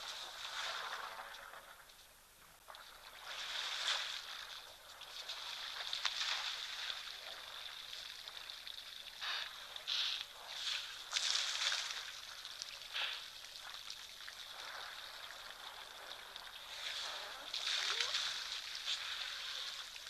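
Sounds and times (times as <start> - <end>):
lioness lapping water: 2.8 - 20.0.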